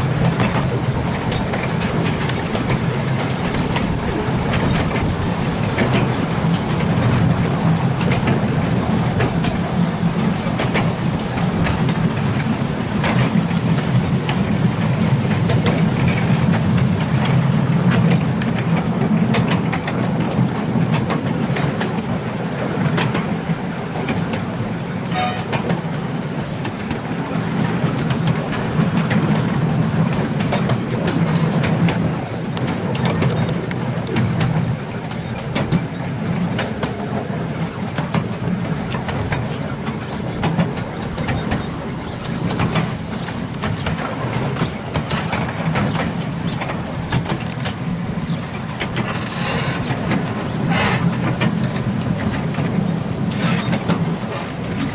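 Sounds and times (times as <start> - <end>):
diesel locomotive engine drone: 0.0 - 54.9
train wheels clicking on track: 0.0 - 54.9.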